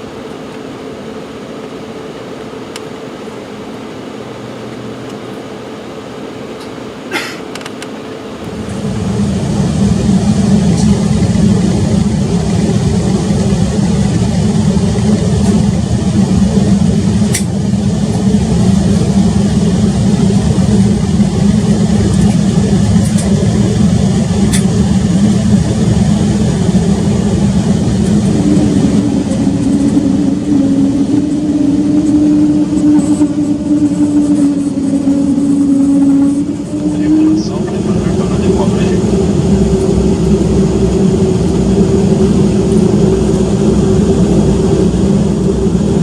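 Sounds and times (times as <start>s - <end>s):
jet engines at takeoff thrust: 0.0s - 46.0s
steady low hum: 0.0s - 46.0s
takeoff roll rumble: 0.0s - 46.0s.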